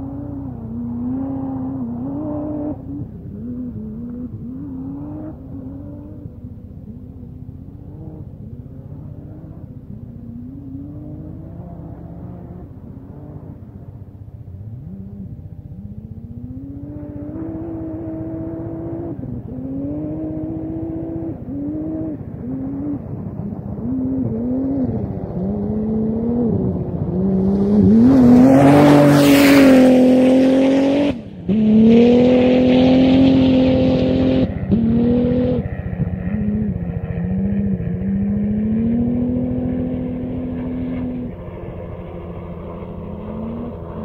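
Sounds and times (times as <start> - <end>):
gravel and tyre noise: 0.0 - 44.0
race buggy engine at full throttle: 0.0 - 44.0.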